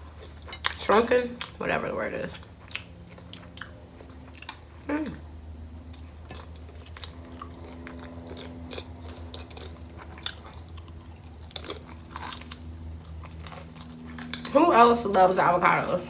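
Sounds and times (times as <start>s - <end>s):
person chewing food: 0.0s - 1.6s, 2.3s - 14.6s
faint steady hum: 0.0s - 16.0s.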